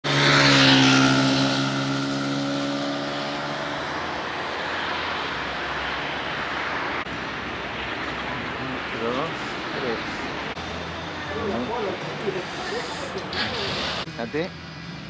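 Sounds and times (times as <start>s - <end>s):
engine passing by: 0.0s - 15.0s
outdoor background noise: 0.0s - 15.0s.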